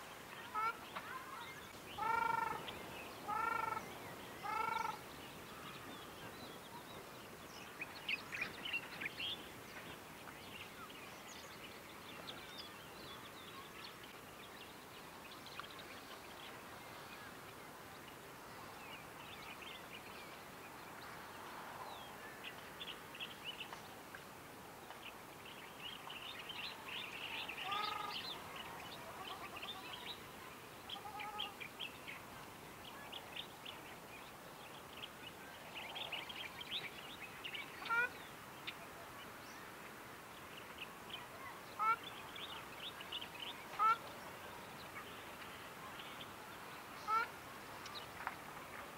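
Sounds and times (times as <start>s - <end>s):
small birds chirping: 0.3s - 20.4s, 24.8s - 48.9s.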